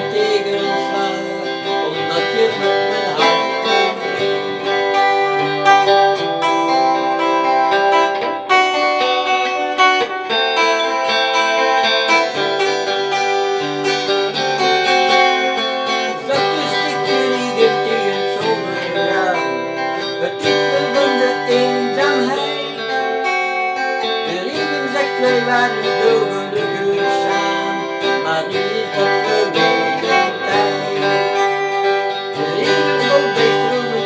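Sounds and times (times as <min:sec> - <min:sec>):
guitar-led instrumental music: 0:00.0 - 0:34.0.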